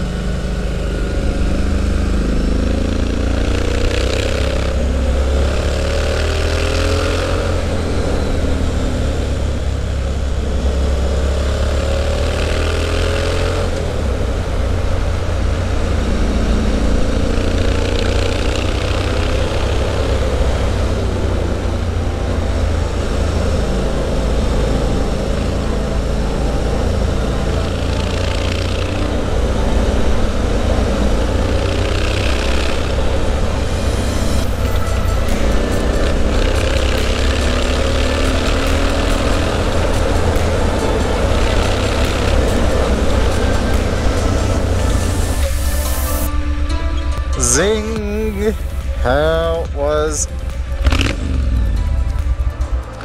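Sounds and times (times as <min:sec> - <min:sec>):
motorcycle engine revving: 0:00.0 - 0:47.2, 0:50.3 - 0:53.0.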